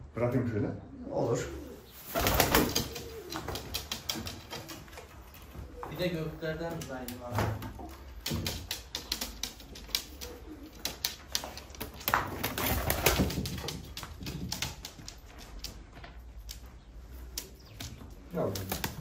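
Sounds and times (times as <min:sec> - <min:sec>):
pigeon rustle: 0:01.6 - 0:19.0
pigeons tapping on wooden boards: 0:02.2 - 0:19.0.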